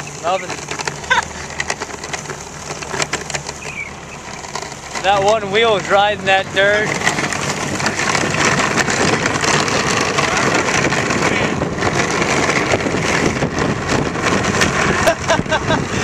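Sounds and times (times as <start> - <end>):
small crackles: 0.0 - 15.0
low engine hum: 0.0 - 16.0
tyres on dirt road: 0.0 - 16.0.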